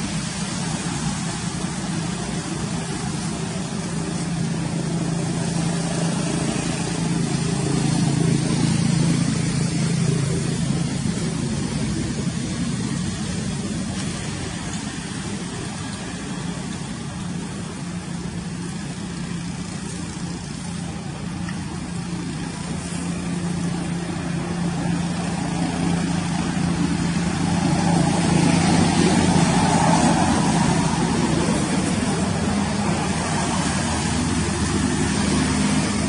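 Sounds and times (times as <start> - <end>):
motor engine humming: 0.0 - 36.0.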